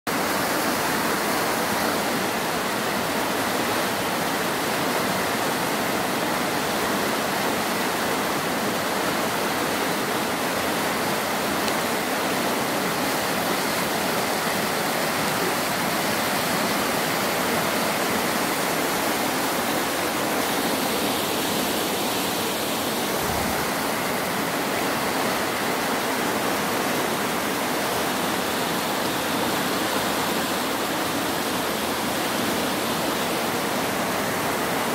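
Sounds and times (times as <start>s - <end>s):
river rushing through rapids: 0.1s - 34.9s.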